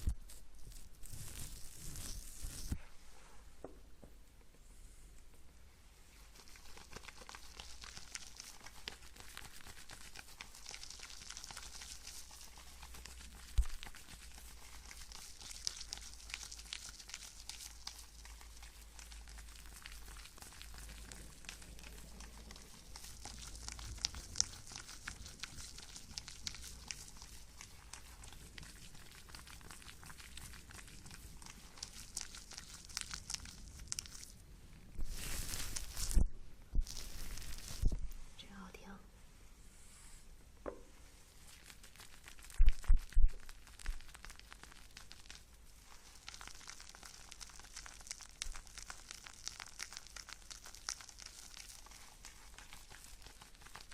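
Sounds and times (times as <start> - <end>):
crackling and scratching: 0.0 - 2.8, 6.2 - 38.5, 41.0 - 53.9.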